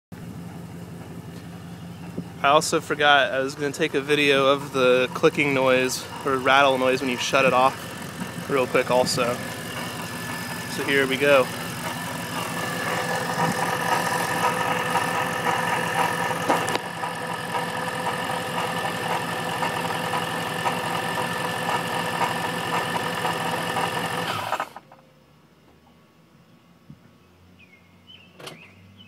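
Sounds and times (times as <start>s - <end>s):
supercharged car engine idling: 0.1s - 24.9s
engine shut-off rattle: 0.2s - 25.0s.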